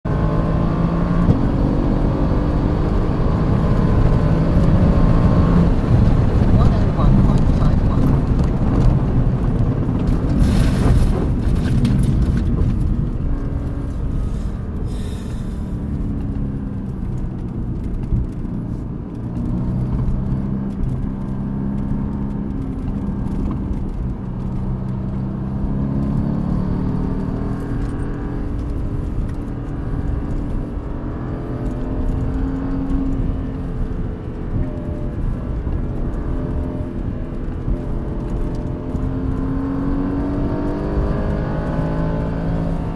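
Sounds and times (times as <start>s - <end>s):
car engine accelerating through gears: 0.0s - 42.9s
road and wind noise: 0.0s - 42.9s.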